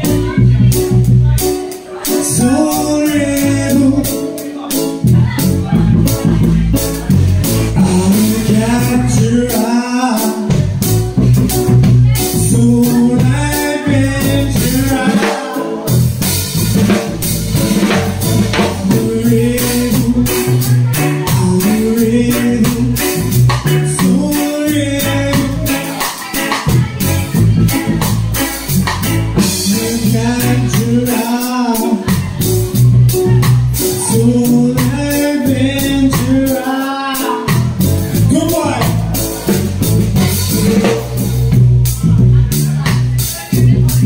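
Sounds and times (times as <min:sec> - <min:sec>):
drum kit with cymbals: 0:00.0 - 0:44.0
electric bass guitar: 0:00.0 - 0:44.0
person singing: 0:00.0 - 0:44.0
stage keyboard: 0:00.0 - 0:44.0.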